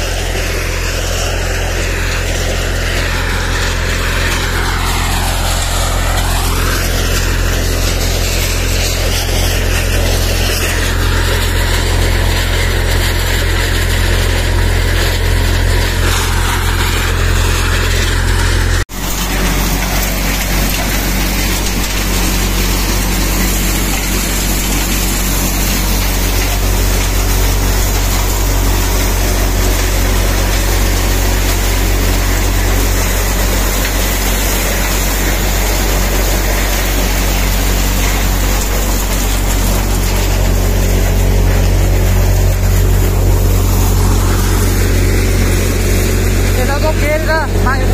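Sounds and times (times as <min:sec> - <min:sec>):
machine engine hum: 0:00.0 - 0:47.9.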